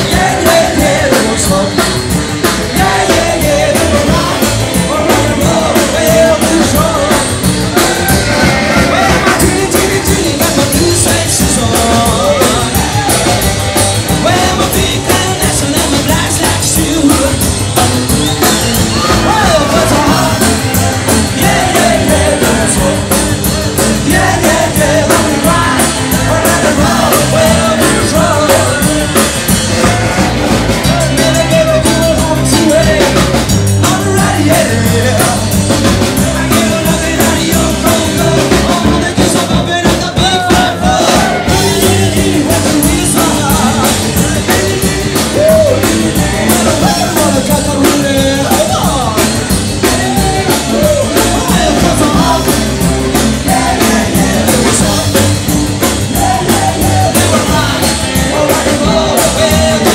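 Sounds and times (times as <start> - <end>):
drums: 0.0 - 59.9
guitar: 0.0 - 59.9
person singing: 0.0 - 59.9.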